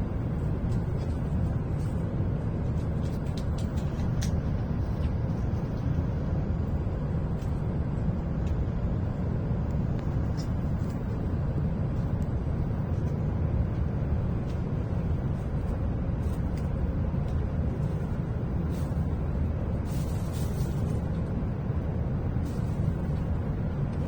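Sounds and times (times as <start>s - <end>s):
train cabin low rumble: 0.0s - 24.0s.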